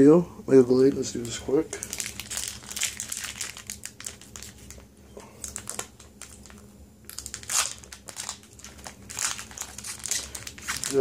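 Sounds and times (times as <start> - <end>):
foil wrapper crinkling: 1.0 - 11.0.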